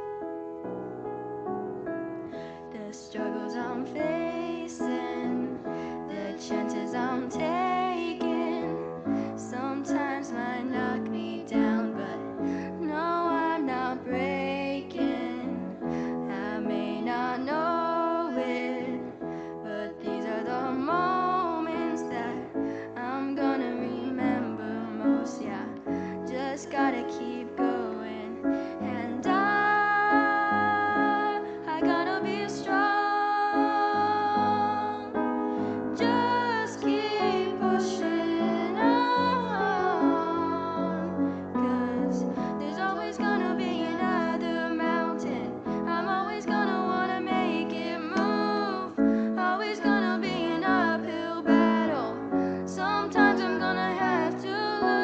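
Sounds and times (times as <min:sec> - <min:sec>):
piano accompaniment: 0:00.0 - 0:55.0
young female voices singing: 0:02.7 - 0:55.0.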